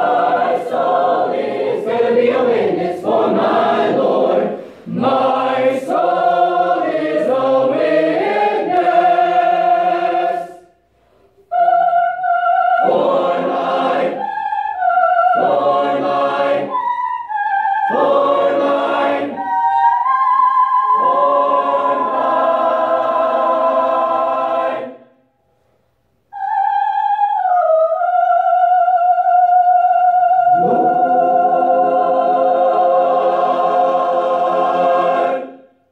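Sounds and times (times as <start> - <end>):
choir singing: 0.0 - 10.8, 11.4 - 25.3, 26.3 - 35.9.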